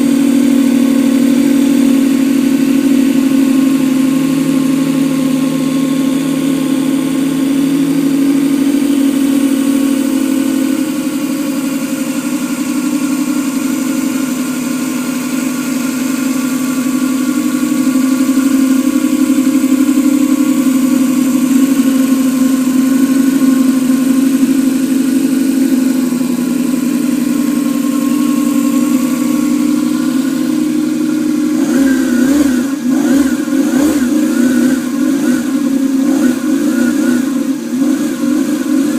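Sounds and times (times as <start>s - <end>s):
model engine running: 0.0s - 38.9s.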